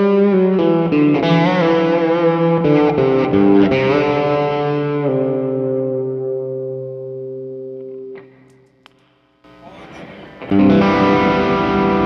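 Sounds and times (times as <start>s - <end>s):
overdriven electric guitar: 0.0s - 9.6s, 10.2s - 12.0s.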